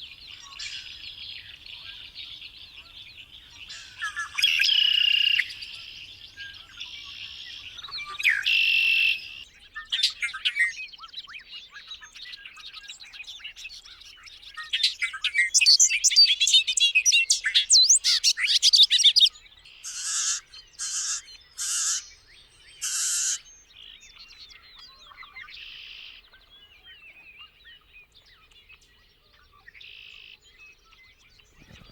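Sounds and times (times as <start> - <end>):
songbirds singing and calling: 0.0 - 31.9
rapid bird twittering: 0.4 - 27.8, 29.5 - 31.9.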